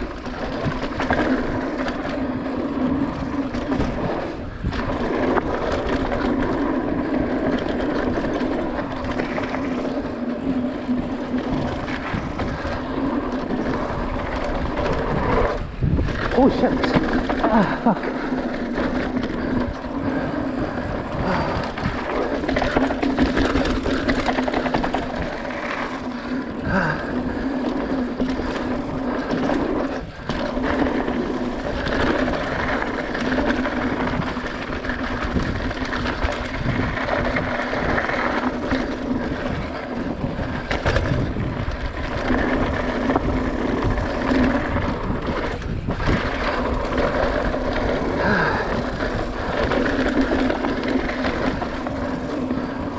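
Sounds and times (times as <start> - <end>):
bike tyres rolling and rattling: 0.0 - 52.9.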